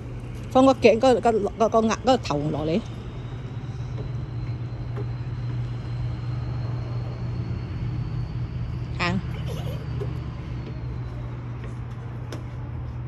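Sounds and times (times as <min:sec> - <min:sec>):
faint high whine: 0:00.0 - 0:13.0
low mechanical hum: 0:00.0 - 0:13.0.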